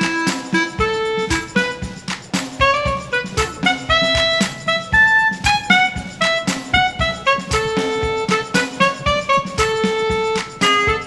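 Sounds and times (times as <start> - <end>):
guitar melody over steady beat: 0.0 - 11.0.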